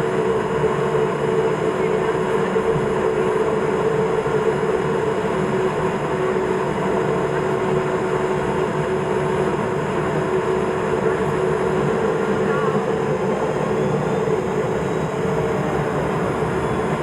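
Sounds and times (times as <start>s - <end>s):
propeller aircraft cabin drone: 0.0s - 17.0s.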